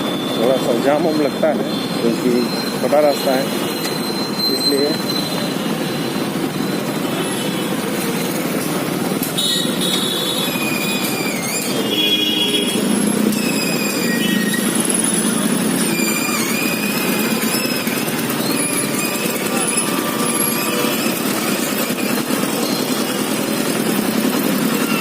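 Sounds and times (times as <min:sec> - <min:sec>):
high-pitched squeals: 0:00.0 - 0:25.0
motorbike engine and road din: 0:00.0 - 0:25.0.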